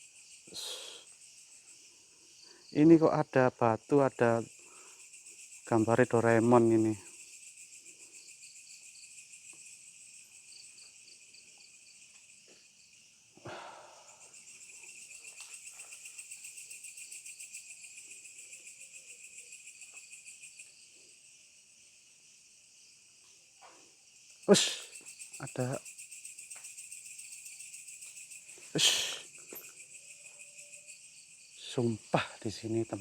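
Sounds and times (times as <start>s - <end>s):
crickets trilling: 0.0s - 33.0s
fast pulsing insect chirp: 0.0s - 33.0s.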